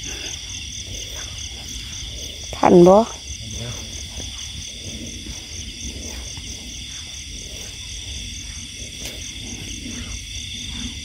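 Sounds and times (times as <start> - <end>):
insects trilling: 0.0 - 11.0
low uneven rumble: 0.0 - 11.0
pulsing insect trill: 0.0 - 11.0.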